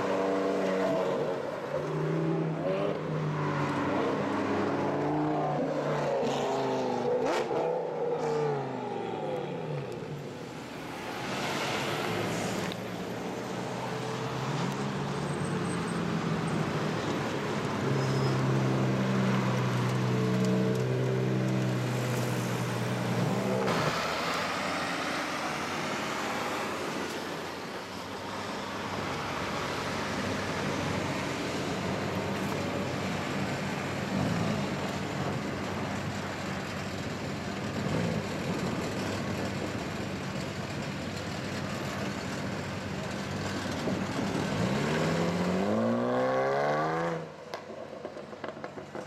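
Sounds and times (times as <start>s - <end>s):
road and traffic noise: 0.0s - 49.0s.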